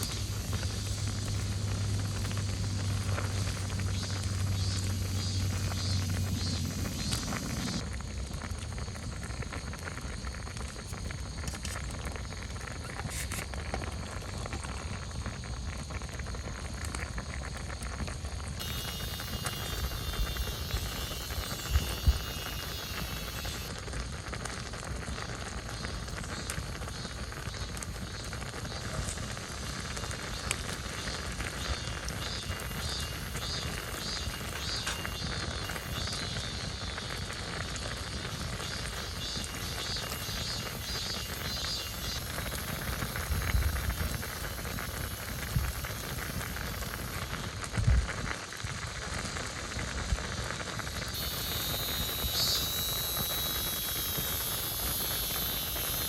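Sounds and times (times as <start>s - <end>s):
broth boiling and bubbling: 0.0s - 56.0s.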